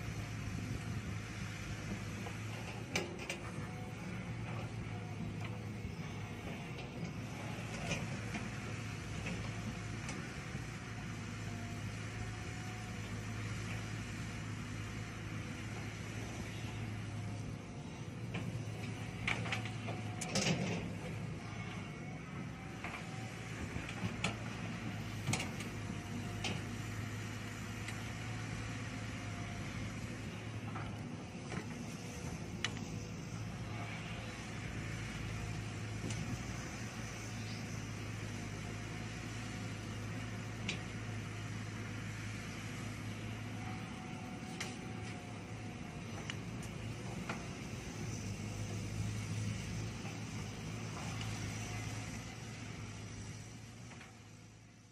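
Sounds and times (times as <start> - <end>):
excavator diesel engine under load: 0.0 - 54.9.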